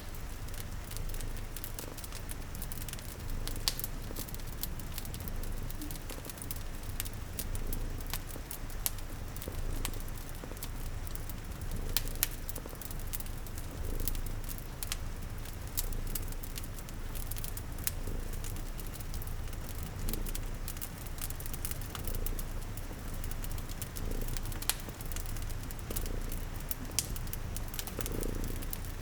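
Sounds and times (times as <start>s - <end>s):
fireplace crackling: 0.0s - 29.0s
soft rain hiss: 0.0s - 29.0s
cat purring: 0.1s - 29.0s.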